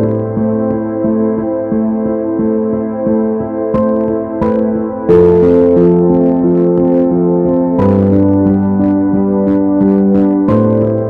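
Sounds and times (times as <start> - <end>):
keyboard music over chords: 0.0 - 11.0.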